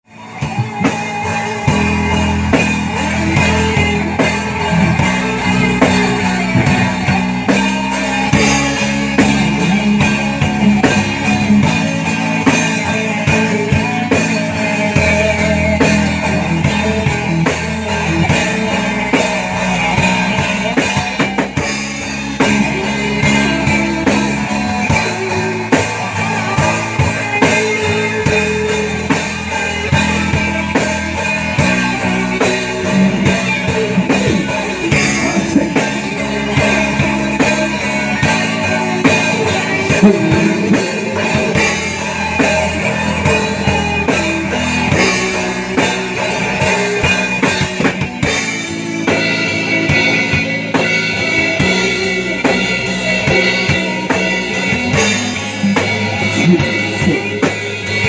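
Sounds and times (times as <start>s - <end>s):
rock music with guitar and drums: 0.0s - 58.0s.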